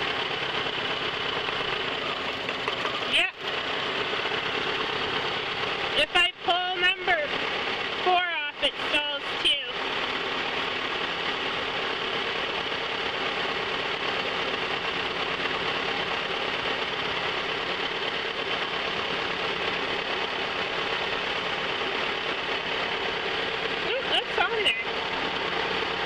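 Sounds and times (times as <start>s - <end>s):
car engine idling roughly: 0.0s - 26.0s.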